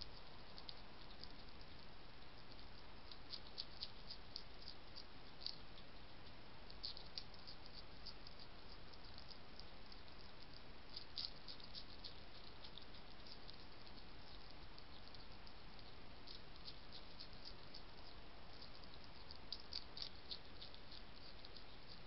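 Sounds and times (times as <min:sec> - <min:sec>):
hedgehog chewing and crunching food: 0:00.0 - 0:22.0
steady hiss: 0:00.0 - 0:22.0.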